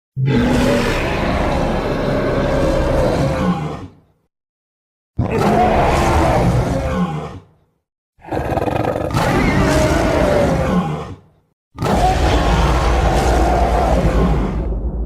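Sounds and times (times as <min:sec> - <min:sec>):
dragon roar: 0:00.2 - 0:04.0, 0:05.2 - 0:07.5, 0:08.2 - 0:15.0.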